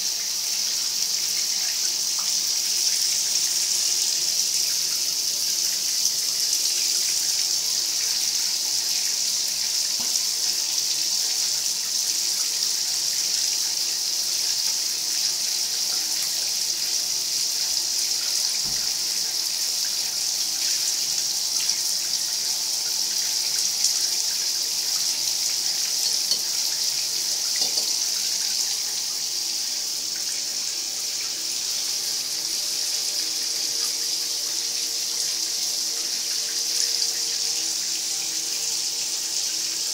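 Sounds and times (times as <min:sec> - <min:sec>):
faucet water pouring into tub: 0:00.0 - 0:39.9.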